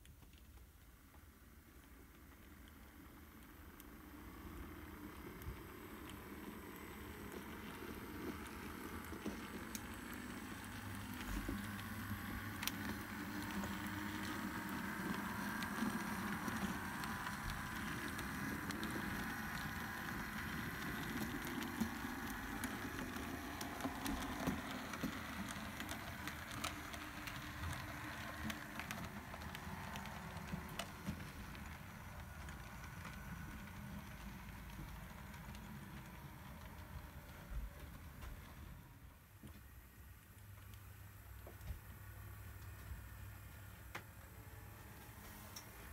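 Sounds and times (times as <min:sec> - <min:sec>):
model locomotive motor whirr: 0:01.0 - 0:39.0.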